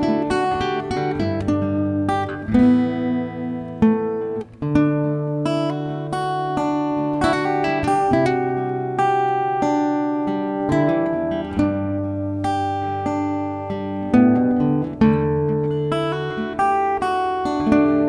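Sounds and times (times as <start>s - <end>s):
guitar playing a melody: 0.0s - 18.0s.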